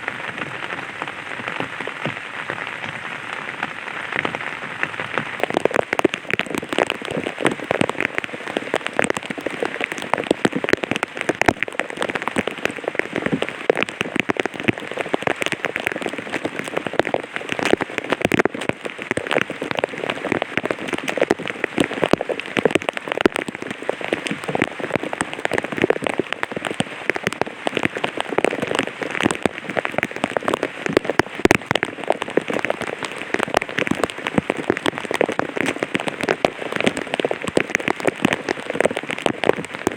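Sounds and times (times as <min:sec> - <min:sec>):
light rain on an umbrella: 0:00.0 - 0:39.9.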